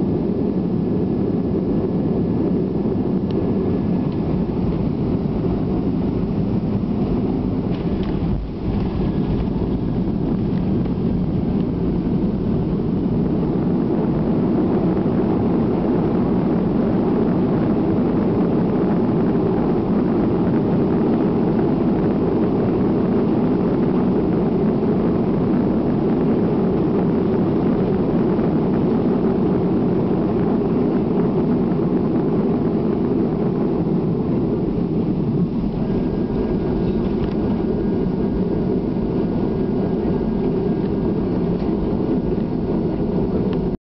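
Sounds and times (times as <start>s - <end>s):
faint high whine: 0.0s - 43.8s
rumble of engines and wheels: 0.0s - 43.8s.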